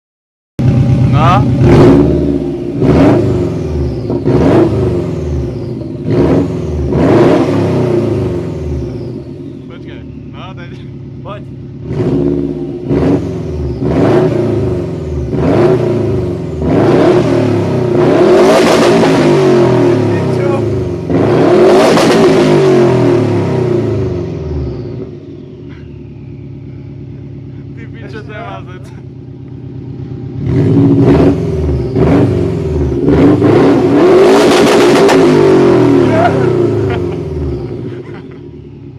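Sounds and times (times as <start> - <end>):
car engine revving in blips: 0.6 - 38.9.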